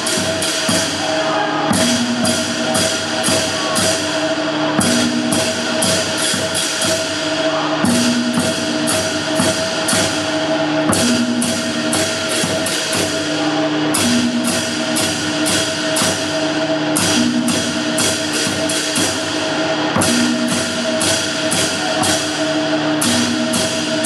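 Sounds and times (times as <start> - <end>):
barrel drum: 0.0 - 24.0
cymbals: 0.0 - 24.0
gongs ringing: 0.0 - 24.0.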